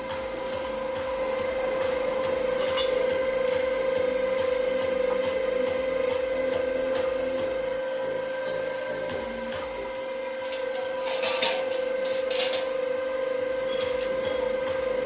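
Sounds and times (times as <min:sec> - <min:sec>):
cutting machine whine: 0:00.0 - 0:15.0.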